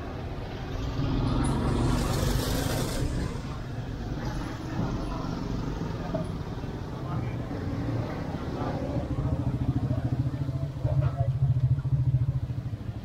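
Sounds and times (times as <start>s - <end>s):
traffic rumble: 0.0s - 13.0s
vehicle passing close: 0.0s - 13.0s.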